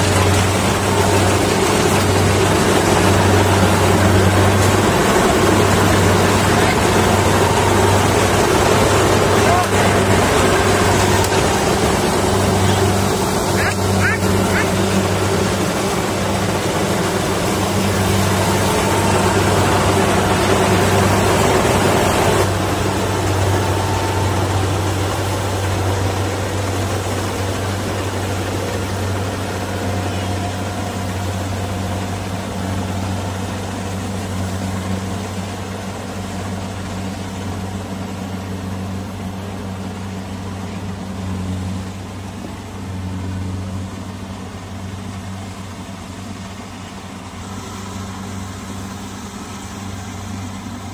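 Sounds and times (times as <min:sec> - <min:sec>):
combine harvester engine humming: 0:00.0 - 0:50.9.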